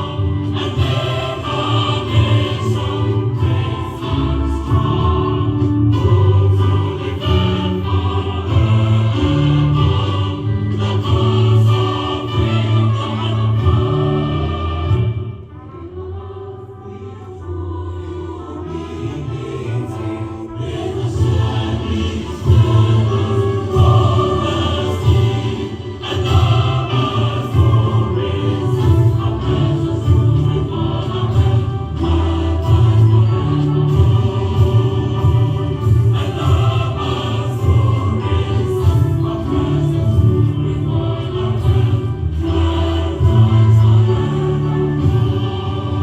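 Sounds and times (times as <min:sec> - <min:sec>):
choir singing: 0:00.0 - 0:46.0.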